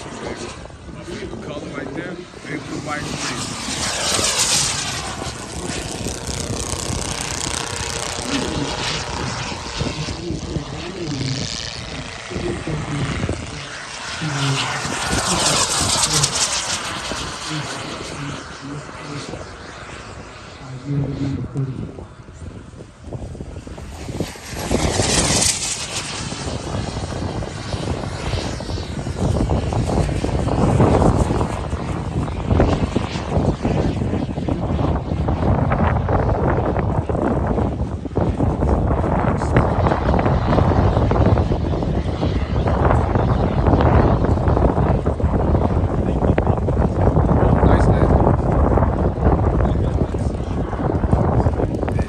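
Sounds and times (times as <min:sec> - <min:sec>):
model aircraft engine overhead: 0:00.0 - 0:52.0.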